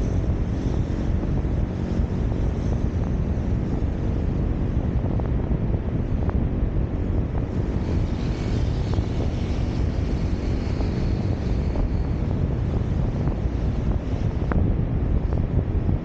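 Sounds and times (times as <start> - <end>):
road and traffic noise: 0.0 - 16.0
wind rumble on microphone: 0.0 - 16.0.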